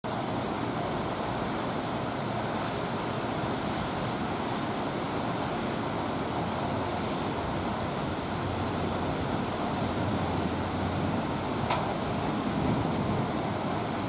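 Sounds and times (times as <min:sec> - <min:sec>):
torrential rain pouring: 0:00.1 - 0:14.0.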